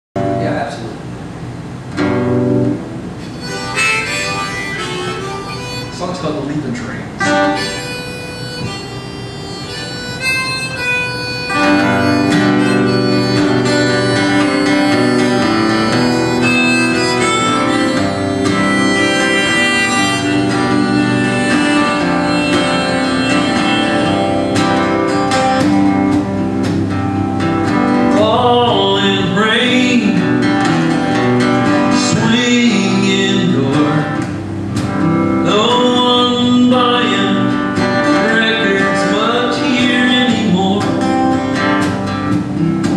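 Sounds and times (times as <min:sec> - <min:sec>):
strummed acoustic guitar: 0:01.9 - 0:42.9
harmonica playing: 0:03.2 - 0:42.4.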